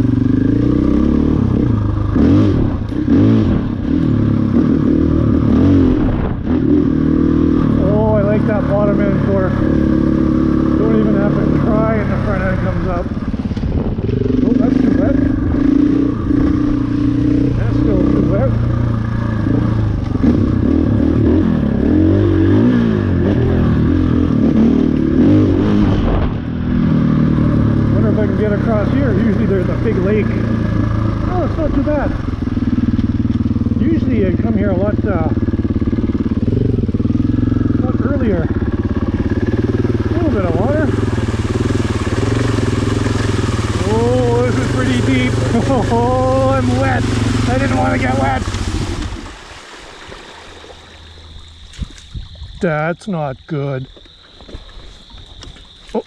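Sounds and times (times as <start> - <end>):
motorcycle engine revving under load: 0.0 - 49.4.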